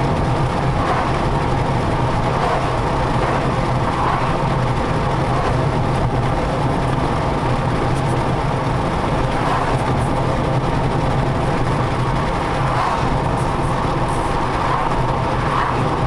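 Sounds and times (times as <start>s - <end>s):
car engine hum inside cabin: 0.0s - 16.0s.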